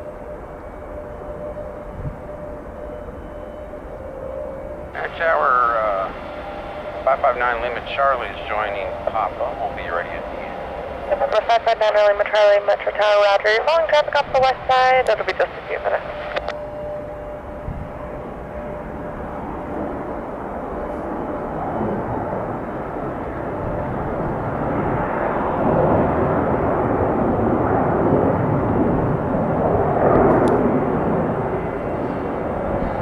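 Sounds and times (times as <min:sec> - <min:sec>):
jet airliner passing: 0:00.0 - 0:33.0.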